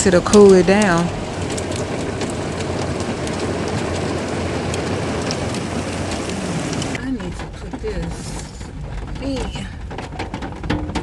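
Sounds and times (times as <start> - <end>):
heavy rain falling: 0.0 - 11.0
raindrops ticking: 0.0 - 11.0.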